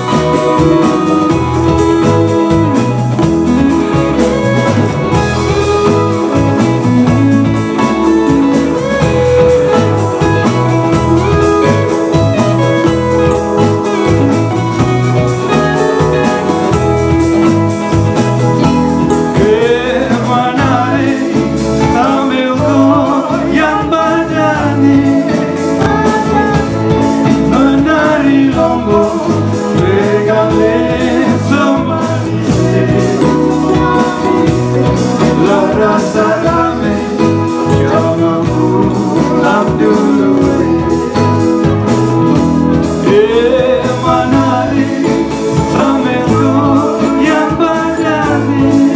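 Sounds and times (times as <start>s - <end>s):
band playing a song: 0.0s - 48.9s
person singing: 0.0s - 48.9s.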